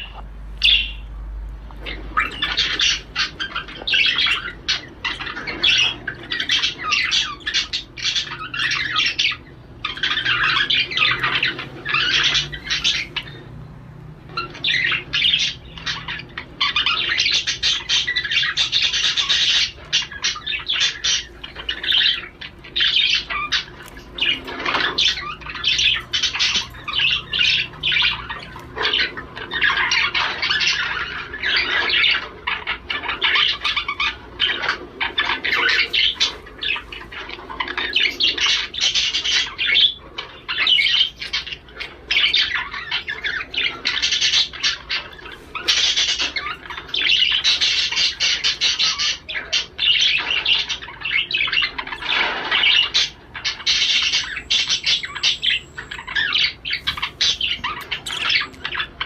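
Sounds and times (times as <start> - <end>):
budgerigar warbling and chattering: 0.0 - 59.0.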